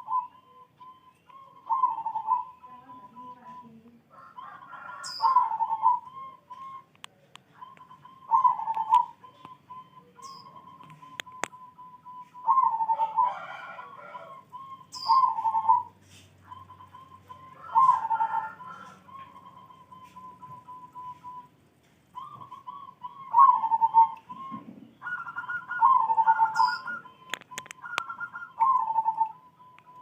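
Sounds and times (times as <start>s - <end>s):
dove cooing: 0.0s - 30.0s.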